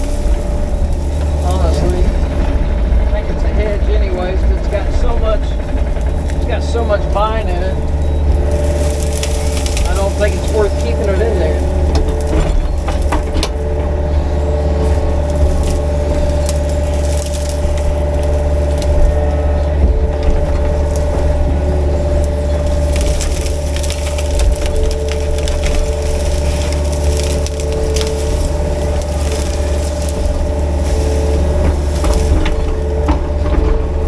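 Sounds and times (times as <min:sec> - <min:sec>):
brush crackling and snapping: 0:00.0 - 0:34.0
excavator diesel engine running: 0:00.0 - 0:34.0.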